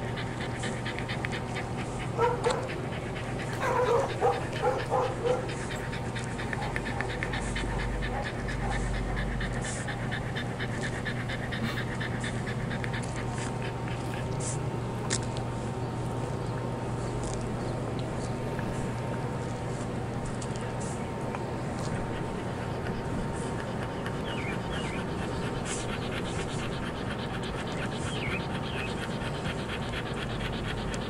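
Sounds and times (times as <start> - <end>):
dog panting: 0.0 - 31.0.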